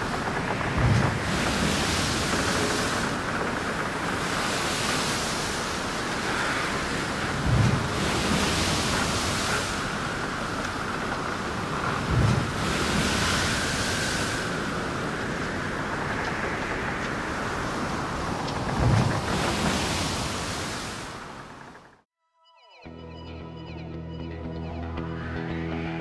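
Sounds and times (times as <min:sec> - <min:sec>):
rushing wash of waves: 0:00.0 - 0:21.9.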